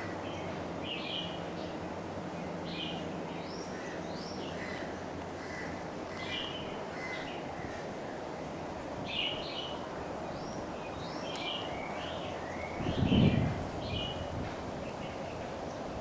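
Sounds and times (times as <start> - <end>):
birds chirping: 0.0 - 16.0
steady background hiss: 0.0 - 16.0.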